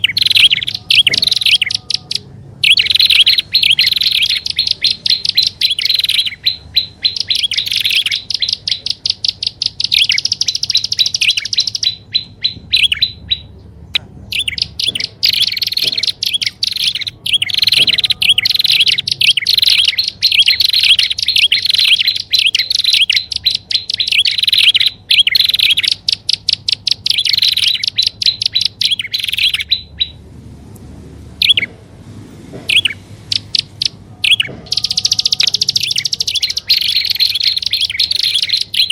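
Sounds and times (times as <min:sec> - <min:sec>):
bird sharp high chirps: 0:00.0 - 0:30.2, 0:31.4 - 0:31.7, 0:32.6 - 0:38.9.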